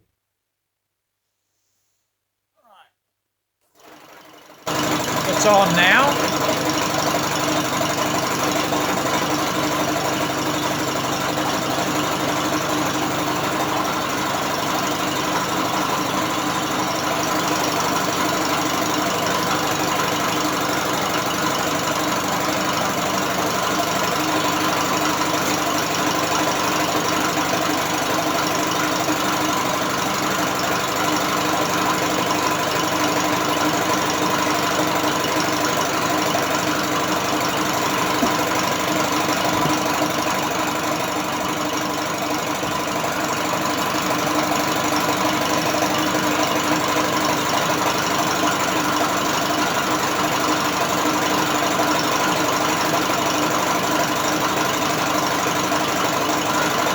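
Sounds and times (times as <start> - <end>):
outboard motor turned by drill: 3.7 - 56.9.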